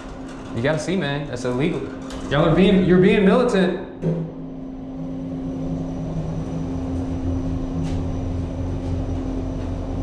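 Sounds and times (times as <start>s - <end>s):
elevator hum and rumble: 0.0s - 10.0s.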